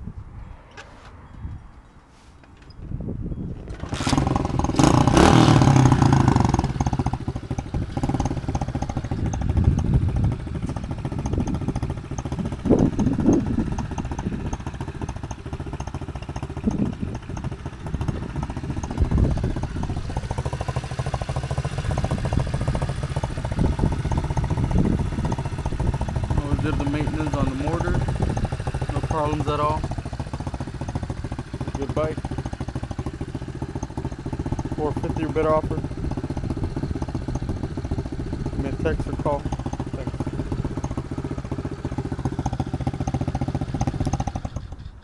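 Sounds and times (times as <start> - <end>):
motorcycle engine revving and idling: 3.4 - 45.0.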